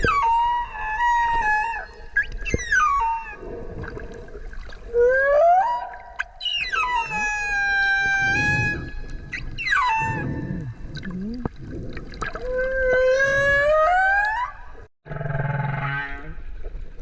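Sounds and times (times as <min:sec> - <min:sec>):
whale calls: 0:00.0 - 0:04.2, 0:04.8 - 0:11.5, 0:12.3 - 0:16.5.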